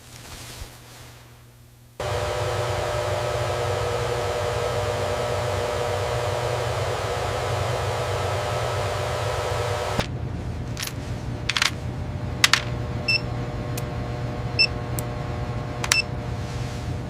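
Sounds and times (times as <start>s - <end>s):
low hum: 2.0s - 17.0s.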